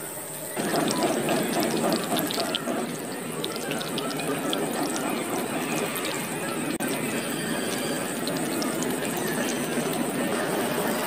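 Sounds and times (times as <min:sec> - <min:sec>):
water dripping: 0:00.6 - 0:11.0.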